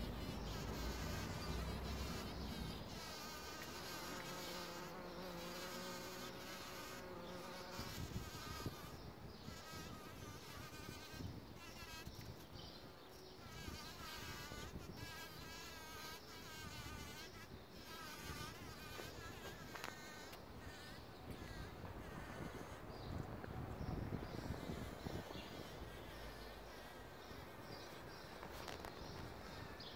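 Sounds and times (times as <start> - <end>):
bumblebee buzzing: 0.0 - 12.7, 13.4 - 23.1, 23.8 - 28.0.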